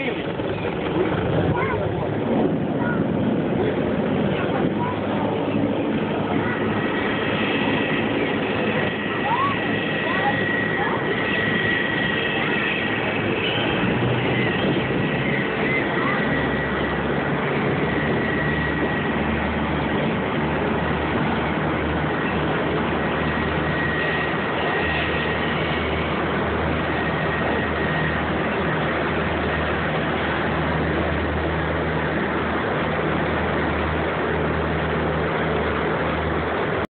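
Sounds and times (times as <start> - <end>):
constant rushing noise: 0.0 - 36.9
motorboat engine humming: 0.0 - 36.9.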